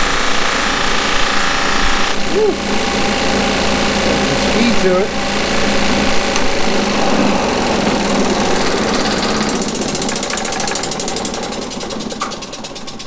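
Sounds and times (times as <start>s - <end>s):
rapid even pulsing of wheel: 0.0s - 13.0s
sander motor whirring down: 0.0s - 13.0s.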